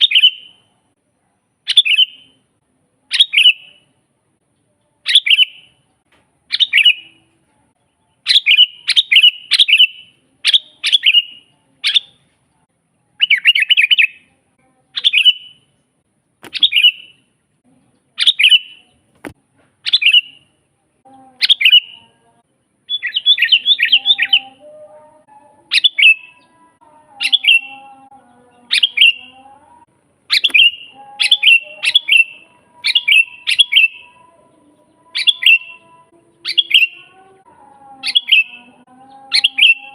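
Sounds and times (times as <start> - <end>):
bird chirping: 0.0 - 0.7, 1.7 - 2.4, 3.1 - 3.9, 4.6 - 12.6, 13.2 - 15.8, 16.4 - 39.9.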